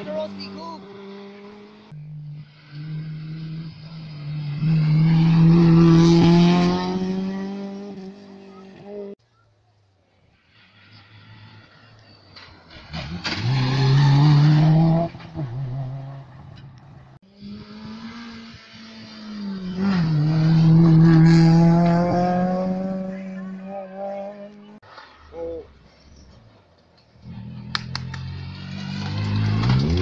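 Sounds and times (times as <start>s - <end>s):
rally cars passing at high revs: 0.0s - 9.2s, 10.5s - 25.4s, 27.2s - 30.0s.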